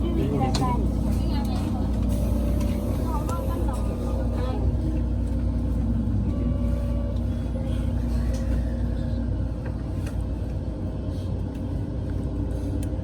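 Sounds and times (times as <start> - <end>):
stopped train rumble and hum: 0.0 - 13.0.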